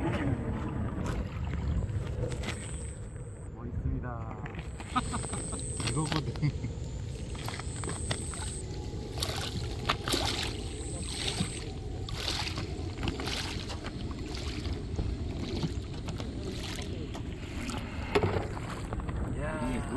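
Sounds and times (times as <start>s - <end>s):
water splashing against boat hull: 0.0s - 3.2s, 4.2s - 19.9s
low water rush: 0.0s - 19.9s.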